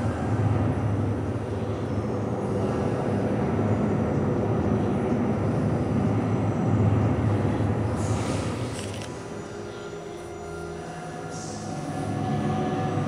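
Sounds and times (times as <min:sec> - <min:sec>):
faint hum: 0:00.0 - 0:13.0
low rumbling noise: 0:00.0 - 0:13.0.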